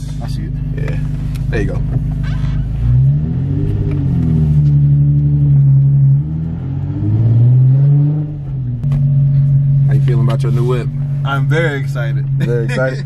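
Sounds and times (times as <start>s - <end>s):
car engine revving inside cabin: 0.0s - 13.0s.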